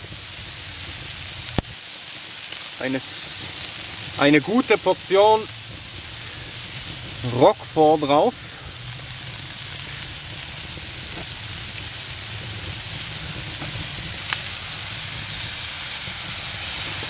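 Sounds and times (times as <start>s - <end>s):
burger patties sizzling: 0.0s - 17.0s.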